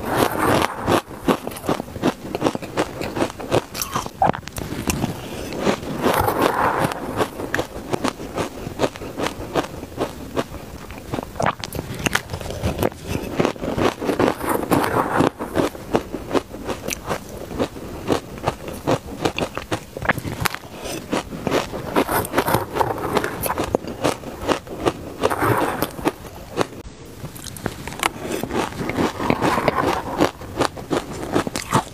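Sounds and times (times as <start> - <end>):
crunchy chewing of shaved ice: 0.0 - 31.9.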